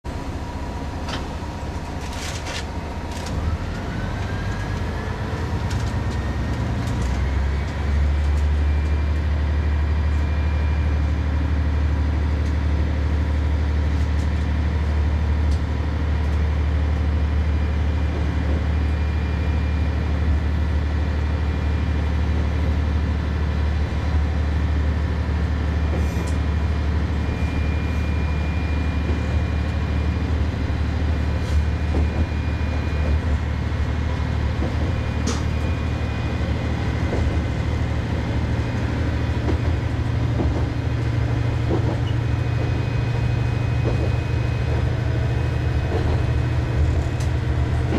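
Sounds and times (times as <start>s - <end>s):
diesel railcar running: 0.0s - 47.9s.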